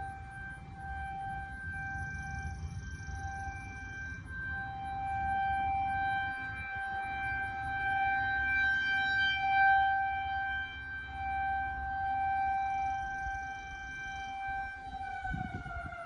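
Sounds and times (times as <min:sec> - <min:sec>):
steady droning tone: 0:00.0 - 0:15.9.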